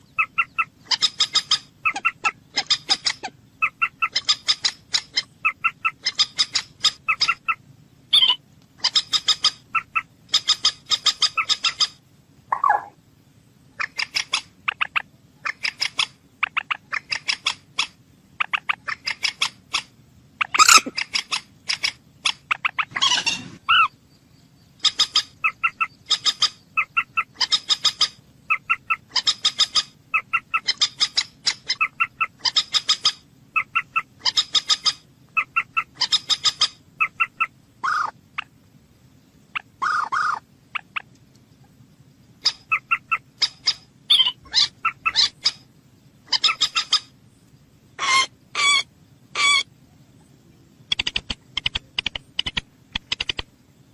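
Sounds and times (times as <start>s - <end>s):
moorhen calling: 0.0s - 13.0s, 13.7s - 38.6s, 39.4s - 47.2s, 47.9s - 53.4s.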